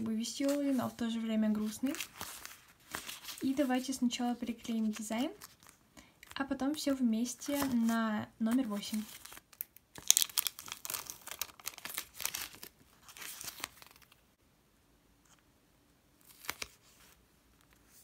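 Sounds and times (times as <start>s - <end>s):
paper crinkling and crackling: 0.0s - 14.2s, 16.2s - 18.0s.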